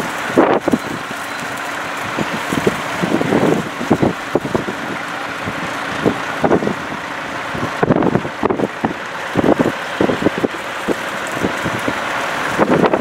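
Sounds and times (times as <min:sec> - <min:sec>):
distant tractor engines: 0:00.0 - 0:13.0
wind buffeting microphone: 0:00.0 - 0:13.0.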